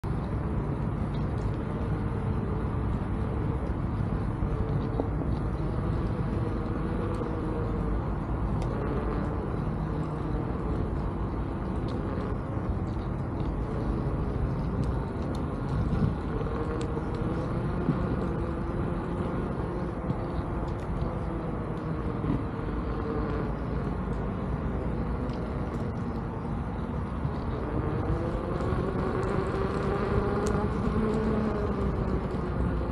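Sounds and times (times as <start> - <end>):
faint wavering motor whine: 0.0 - 32.9
wind on microphone: 0.0 - 32.9.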